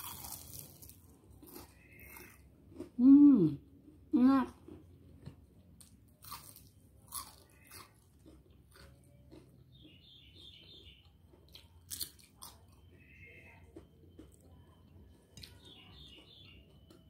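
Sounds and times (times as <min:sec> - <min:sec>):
chewing crispy fritter: 0:00.0 - 0:17.0.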